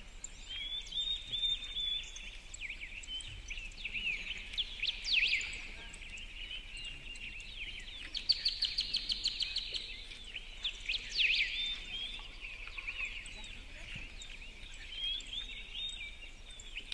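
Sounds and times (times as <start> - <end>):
songbirds chirping and calling: 0.0 - 16.9.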